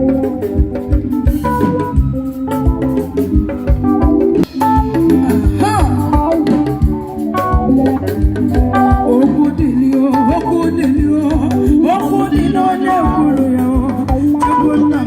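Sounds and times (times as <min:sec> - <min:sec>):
steady drum beat: 0:00.0 - 0:14.6
electronic organ chords: 0:00.0 - 0:15.0
wavering lead line: 0:00.0 - 0:15.0.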